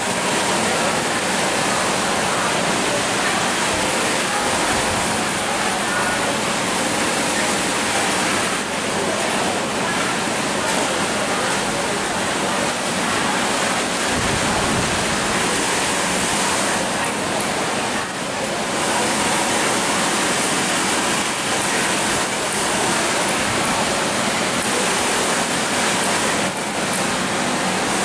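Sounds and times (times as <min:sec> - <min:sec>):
workshop background hiss: 0:00.0 - 0:28.0.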